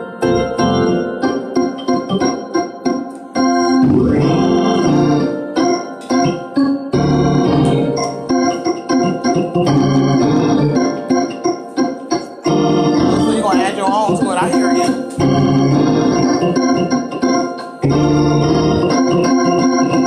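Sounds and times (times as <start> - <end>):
organ playing chopped chords: 0.0 - 20.0.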